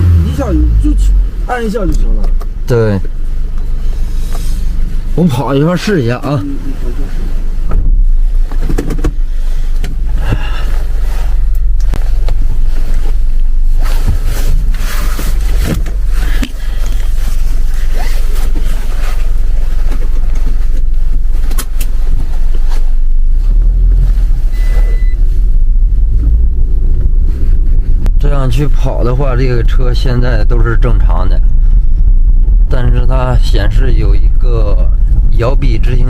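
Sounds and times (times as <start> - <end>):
engine and road rumble: 0.0 - 36.0.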